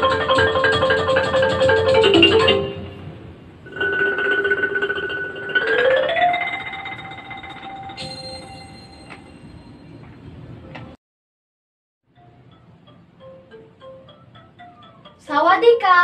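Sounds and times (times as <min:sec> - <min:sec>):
mallet percussion music: 0:00.0 - 0:10.0, 0:12.1 - 0:15.4.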